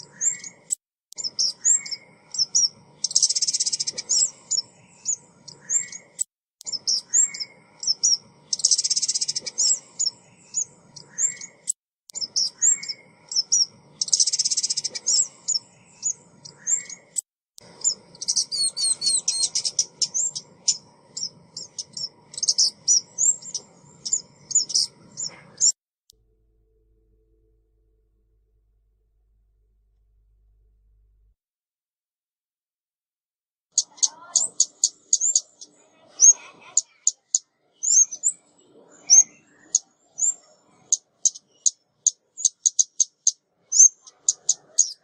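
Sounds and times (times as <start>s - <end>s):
bird chirping and trilling: 0.0s - 25.8s, 33.7s - 45.0s.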